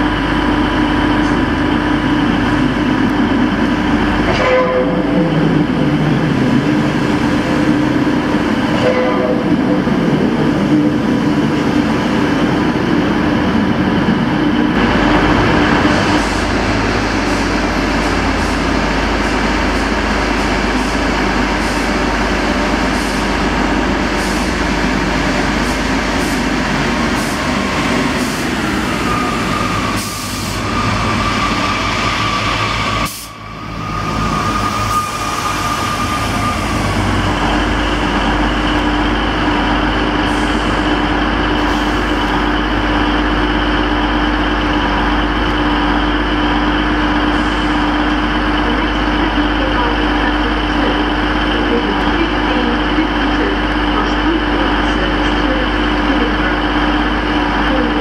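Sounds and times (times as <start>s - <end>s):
diesel engine drone: 0.0s - 58.0s.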